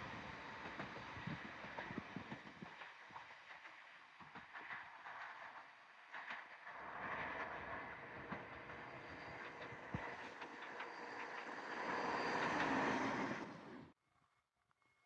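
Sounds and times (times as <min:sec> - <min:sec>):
train wheels rushing on rail: 0:00.0 - 0:13.9.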